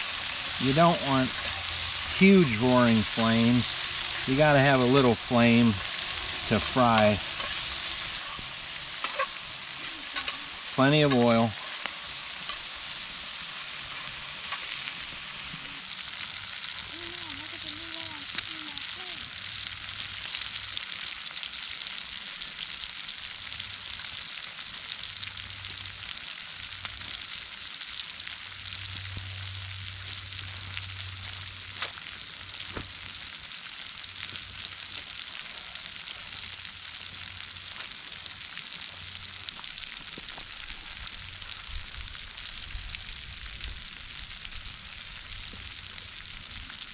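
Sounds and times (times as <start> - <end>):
peppers sizzling in oil: 0.0 - 46.9.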